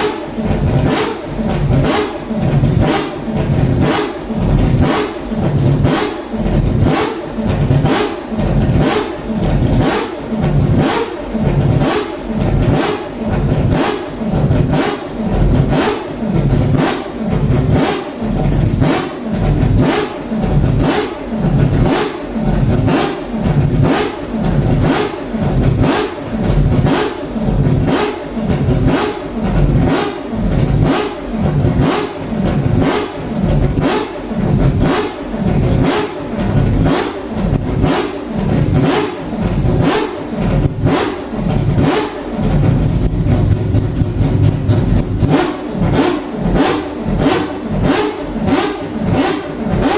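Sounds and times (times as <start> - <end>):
racing engine throttle blips: 0.0 - 49.9.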